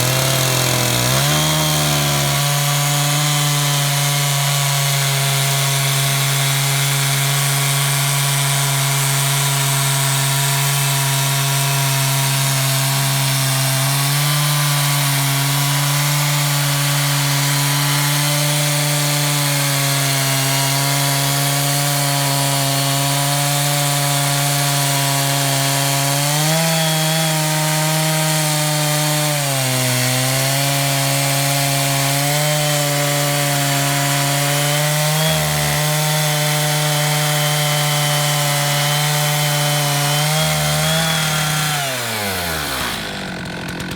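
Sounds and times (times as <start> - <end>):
chainsaw cutting through log: 0.0 - 43.9.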